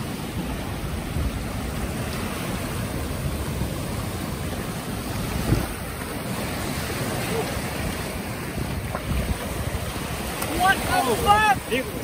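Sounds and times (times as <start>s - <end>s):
waves breaking on shore: 0.0s - 12.0s
wind buffeting microphone: 0.0s - 12.0s.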